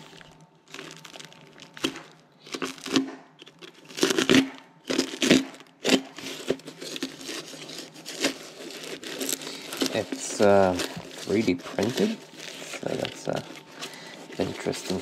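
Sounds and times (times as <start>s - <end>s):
wrapping crinkling and tearing: 0.0s - 15.0s.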